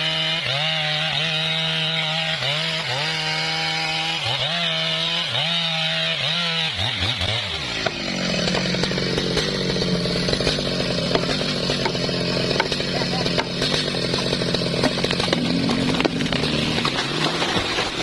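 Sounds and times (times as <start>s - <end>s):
chainsaw cutting tree: 0.0s - 18.0s.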